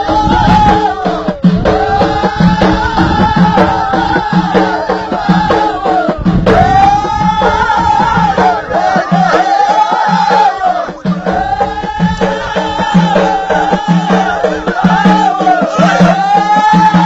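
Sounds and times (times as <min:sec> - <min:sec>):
frame drums beating: 0:00.0 - 0:17.0
voices singing: 0:00.0 - 0:17.0.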